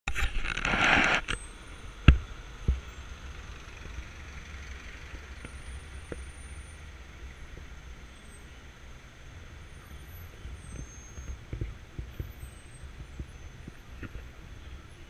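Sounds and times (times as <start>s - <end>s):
car driving rumble: 0.4s - 15.0s.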